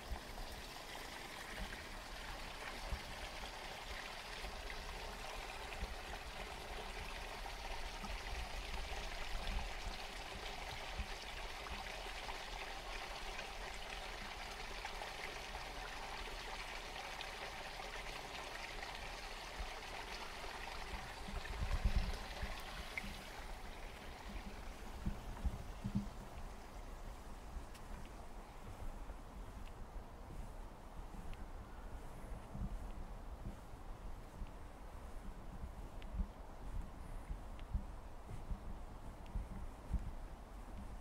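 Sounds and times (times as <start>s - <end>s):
stream water running: 0.0s - 41.0s.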